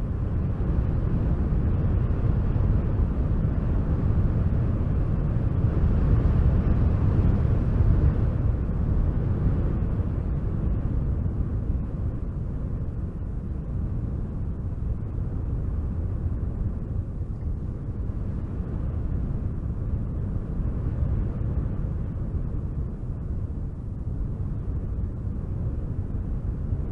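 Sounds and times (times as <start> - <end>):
wind blowing hard: 0.0 - 26.9.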